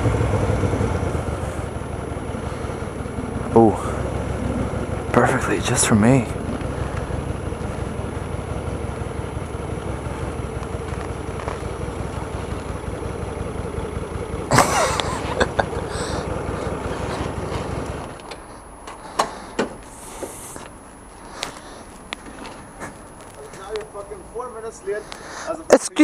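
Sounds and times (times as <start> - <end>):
motorcycle engine idling: 0.0 - 25.6.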